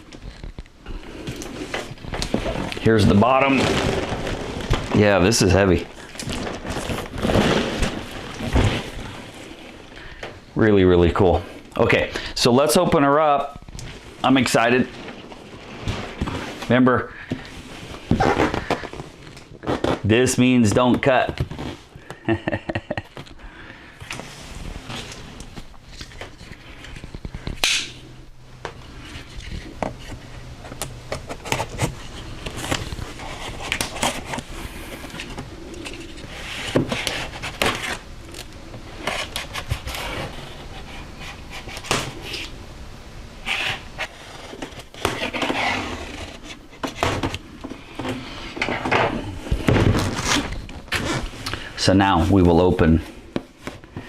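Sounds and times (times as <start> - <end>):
cardboard scraping and rustling: 0.0 - 10.0, 11.1 - 22.8, 24.0 - 27.6, 28.6 - 42.6, 43.4 - 54.0.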